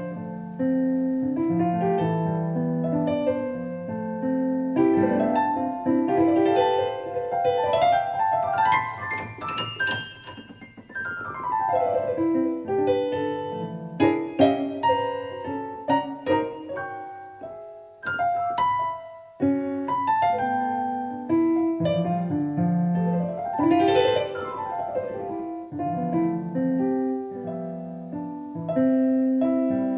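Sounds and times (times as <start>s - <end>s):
piano improvisation: 0.0s - 29.9s.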